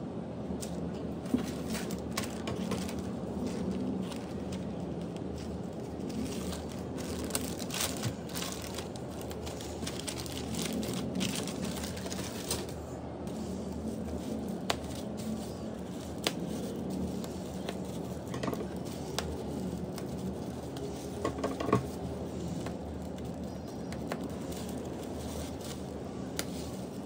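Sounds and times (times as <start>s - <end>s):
plastic packaging crinkling: 1.2s - 27.0s.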